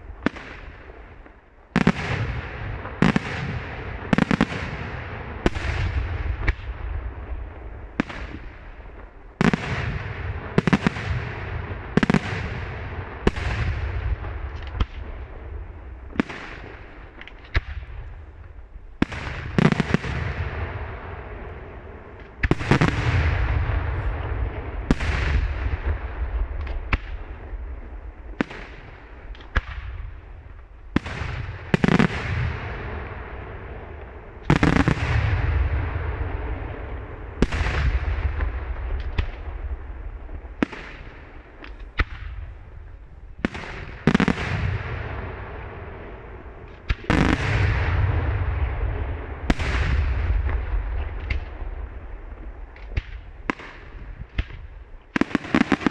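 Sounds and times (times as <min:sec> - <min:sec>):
rolling echo: 0:00.0 - 0:55.9.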